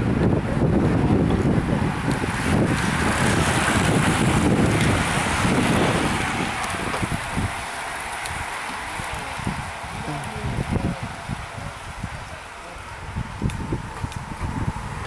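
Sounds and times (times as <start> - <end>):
bicycle tyres and freewheels whirring: 0.0 - 15.0
wind buffeting microphone: 0.0 - 15.0.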